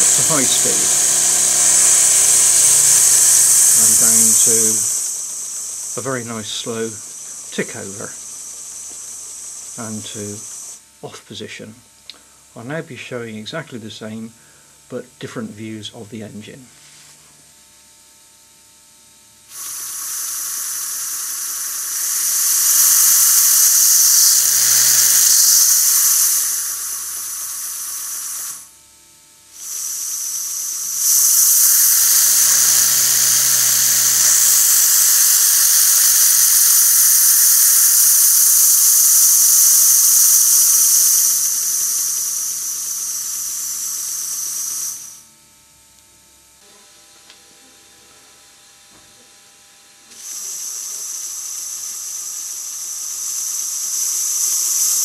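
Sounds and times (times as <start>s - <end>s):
air engine exhaust hissing: 0.0s - 17.4s, 19.4s - 28.8s, 29.4s - 45.4s, 50.0s - 55.0s.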